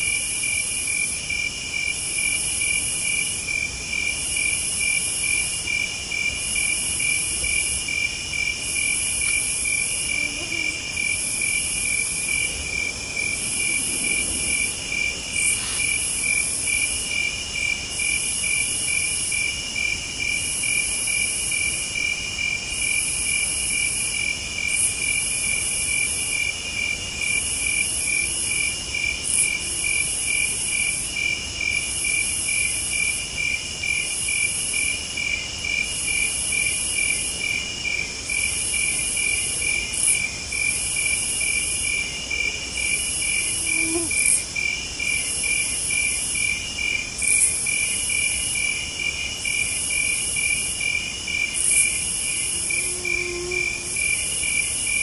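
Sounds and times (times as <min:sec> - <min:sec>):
crickets chirping: 0:00.0 - 0:55.0
rapid pulsing insect chirp: 0:00.0 - 0:55.0
high buzzing insect trill: 0:04.0 - 0:19.5, 0:22.9 - 0:55.0.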